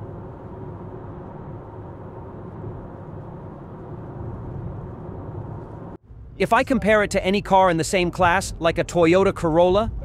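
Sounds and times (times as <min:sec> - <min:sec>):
car road noise: 0:00.0 - 0:10.0.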